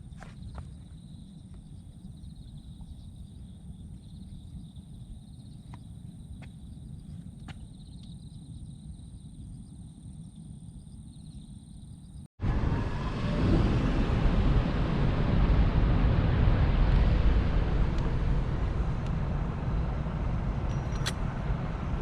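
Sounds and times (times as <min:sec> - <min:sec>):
wind rush on microphone: 0:00.0 - 0:22.0.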